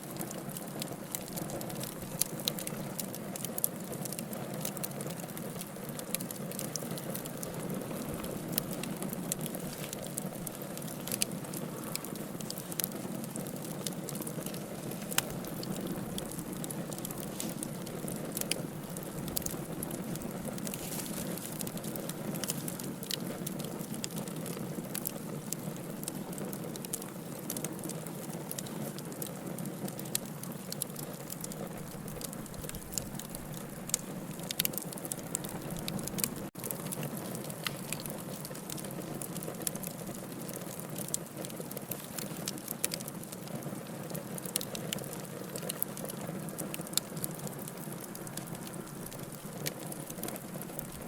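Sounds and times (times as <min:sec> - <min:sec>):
fire crackles and pops: 0:00.0 - 0:51.0
wood fire burning: 0:00.0 - 0:51.0.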